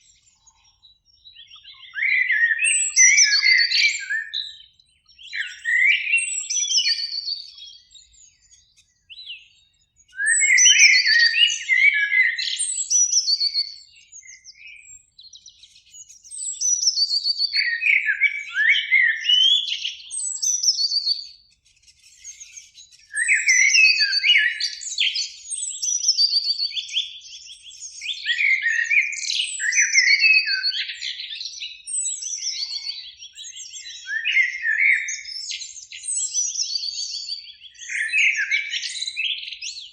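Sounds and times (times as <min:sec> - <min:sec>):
blackbird song: 0:00.0 - 0:39.9.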